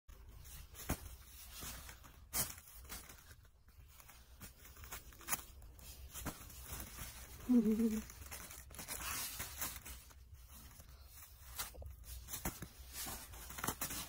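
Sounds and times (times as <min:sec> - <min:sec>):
soft rustling: 0:00.1 - 0:14.0
diapers ripping: 0:00.3 - 0:14.0.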